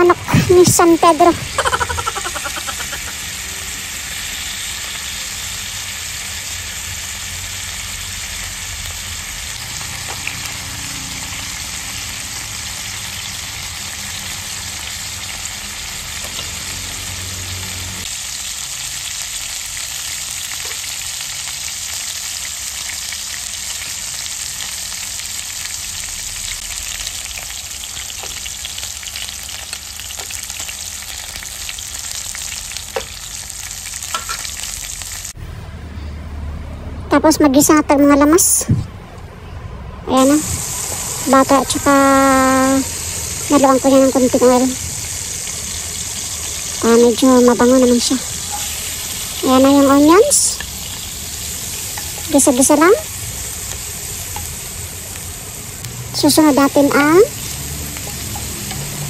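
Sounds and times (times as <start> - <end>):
chicken sizzling in oil: 0.0 - 35.4, 40.1 - 59.0.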